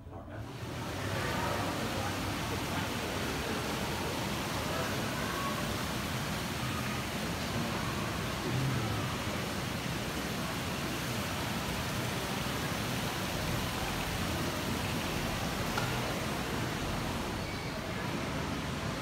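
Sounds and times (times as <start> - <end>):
faint murmur of visitors: 0.0 - 19.0
steady ambient hiss: 0.0 - 19.0.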